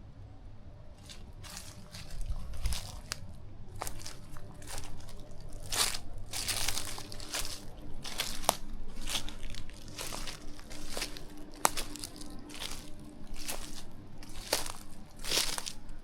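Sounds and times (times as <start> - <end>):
footsteps crunching on rough ground: 1.0 - 16.0.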